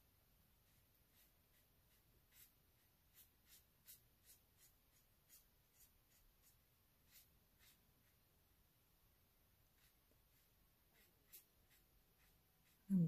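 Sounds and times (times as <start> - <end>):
paintbrush swishing on paper: 0.5 - 8.3, 9.6 - 12.9.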